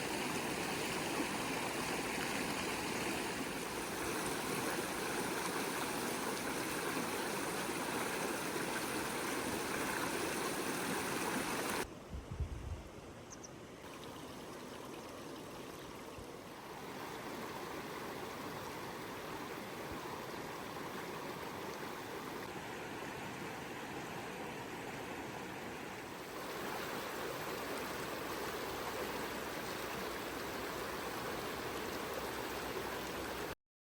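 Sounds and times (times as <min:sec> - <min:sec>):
river water rushing: 0:00.0 - 0:11.9, 0:13.9 - 0:33.6.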